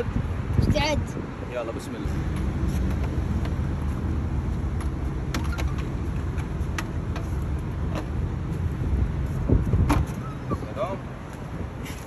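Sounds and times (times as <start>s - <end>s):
steady low rumble: 2.0s - 12.0s.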